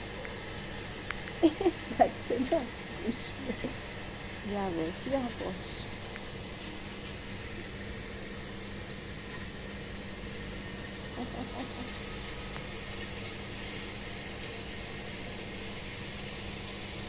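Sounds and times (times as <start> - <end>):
low even hum: 0.0 - 17.0
steady background hiss: 0.0 - 17.0.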